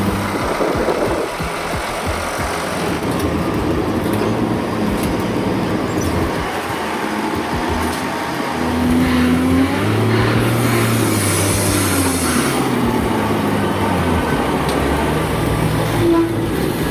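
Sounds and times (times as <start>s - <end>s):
heavy truck engine running: 0.0s - 16.9s
road noise: 0.0s - 16.9s.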